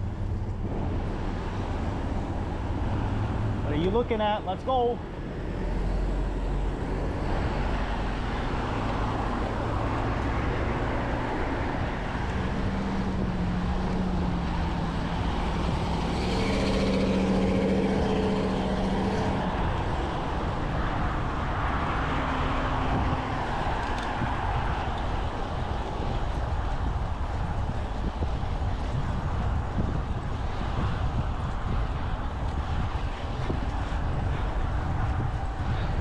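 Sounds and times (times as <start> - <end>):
passing vehicle engine hum: 0.0 - 36.0
road traffic noise: 0.0 - 36.0.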